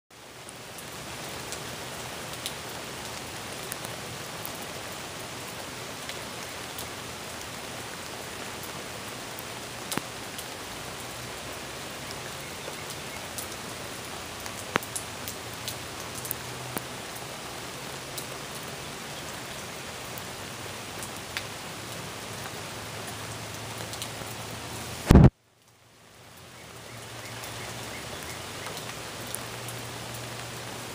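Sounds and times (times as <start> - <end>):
steady rain hiss: 0.1 - 30.9.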